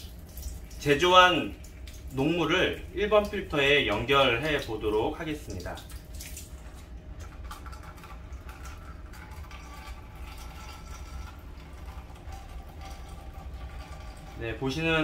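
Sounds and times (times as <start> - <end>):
steady low hum: 0.0 - 15.0
water running into plastic cup: 0.0 - 15.0.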